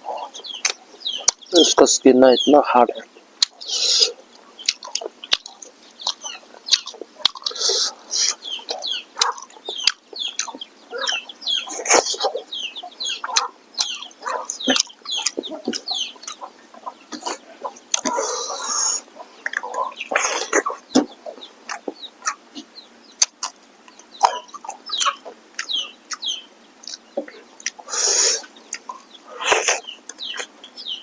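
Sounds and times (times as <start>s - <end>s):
chickens clucking: 0.0s - 31.0s
short chirping calls: 0.0s - 31.0s.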